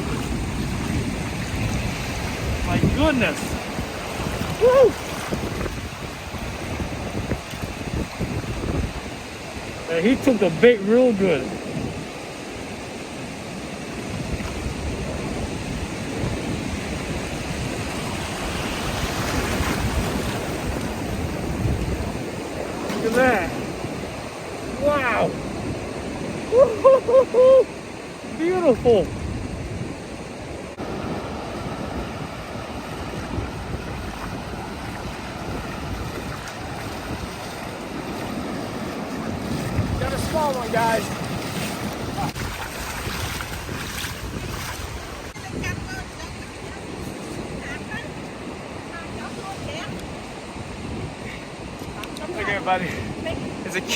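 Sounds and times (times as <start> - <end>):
ocean surf washing on beach: 0.0 - 53.9
wind rumbling on microphone: 0.0 - 53.9.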